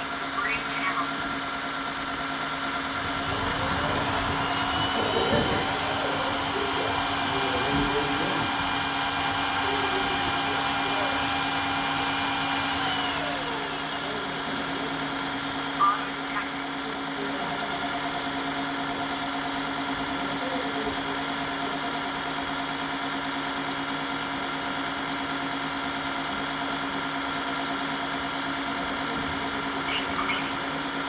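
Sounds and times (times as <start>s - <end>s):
vacuum motor hum with whining: 0.0s - 31.0s.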